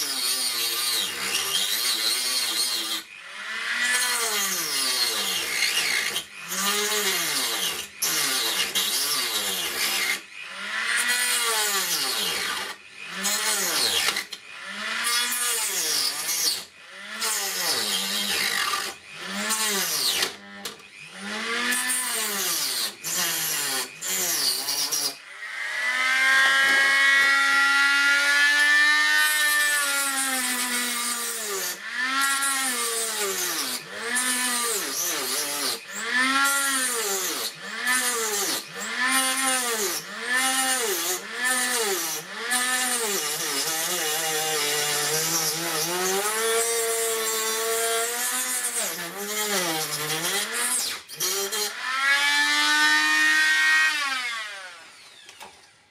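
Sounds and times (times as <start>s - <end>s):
rotary tool whining: 0.0s - 55.9s.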